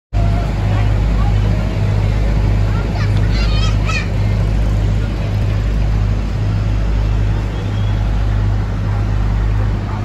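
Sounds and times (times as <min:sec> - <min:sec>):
road traffic engine drone: 0:00.1 - 0:10.0.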